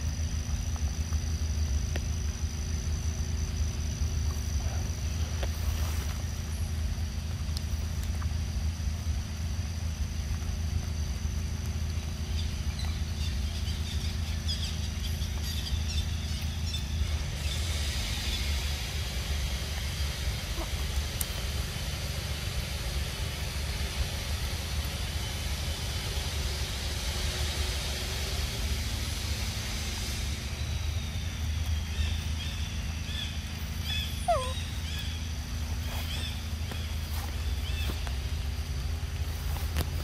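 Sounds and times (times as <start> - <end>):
high hiss: 0.0 - 40.0.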